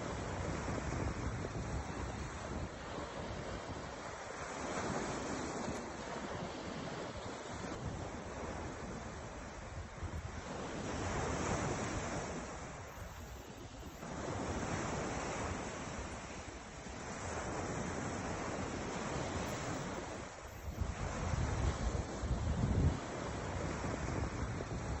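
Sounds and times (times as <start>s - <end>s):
ocean waves breaking: 0.0s - 25.0s
wind buffeting microphone: 0.0s - 25.0s.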